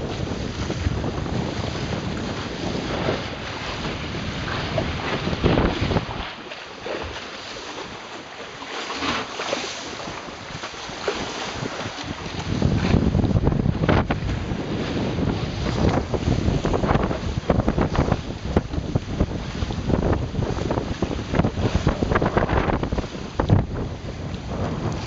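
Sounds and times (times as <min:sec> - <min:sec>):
wind rumbling on microphone: 0:00.0 - 0:07.9, 0:09.0 - 0:25.0
water rushing along a hull: 0:00.0 - 0:25.0.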